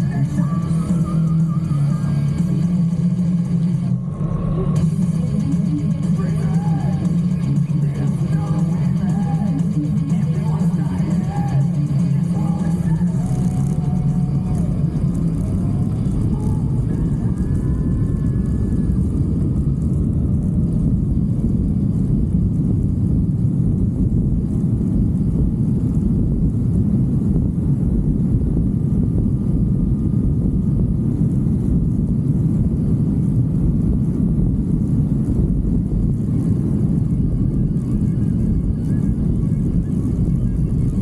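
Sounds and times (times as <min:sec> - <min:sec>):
motorcycle engine rumble: 0:00.0 - 0:41.0
wind noise: 0:00.0 - 0:41.0.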